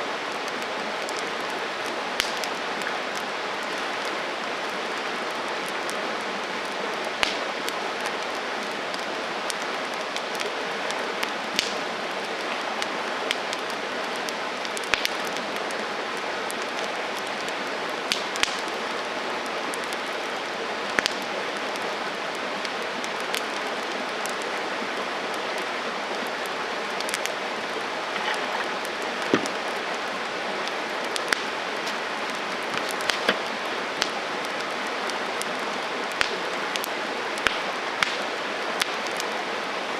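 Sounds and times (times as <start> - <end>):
fire crackling and popping: 0.0 - 39.8
campfire hissing: 0.0 - 39.9.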